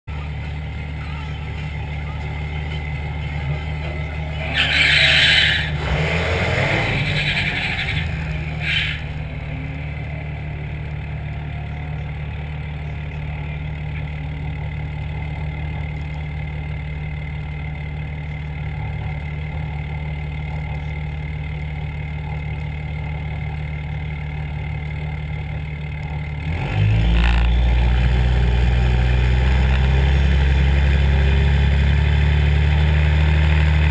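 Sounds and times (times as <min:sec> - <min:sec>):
pickup truck diesel engine idling: 0:00.1 - 0:26.7, 0:27.3 - 0:33.9.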